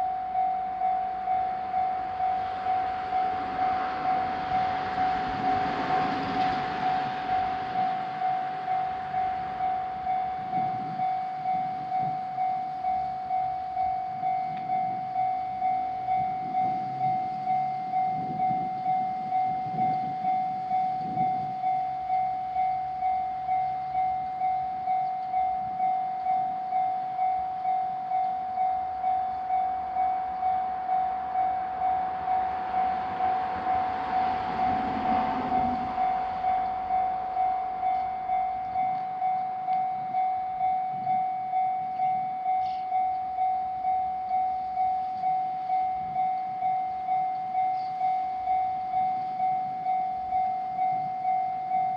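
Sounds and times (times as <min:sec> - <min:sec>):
level-crossing alarm bell ringing: 0:00.0 - 0:51.9.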